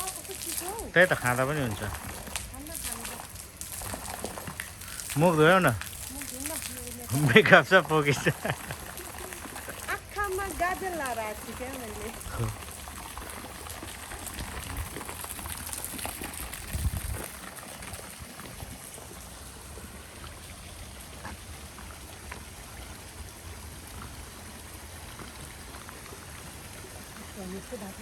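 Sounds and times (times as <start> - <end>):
water splashing out of a pipe: 0.0 - 28.0.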